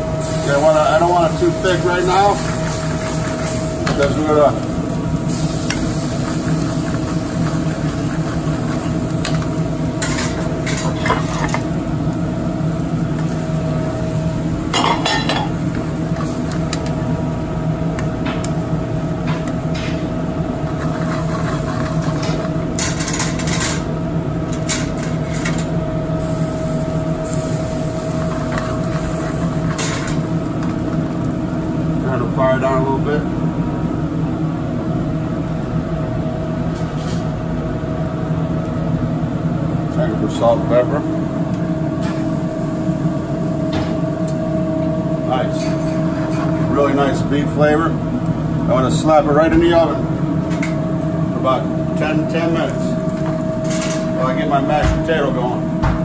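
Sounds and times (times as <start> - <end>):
kitchen hum: 0.0 - 56.0.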